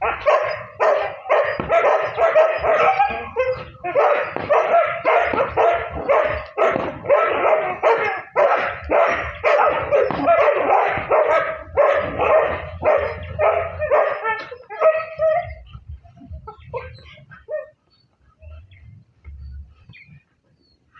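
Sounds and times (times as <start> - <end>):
dogs barking rapidly: 0.0 - 20.8.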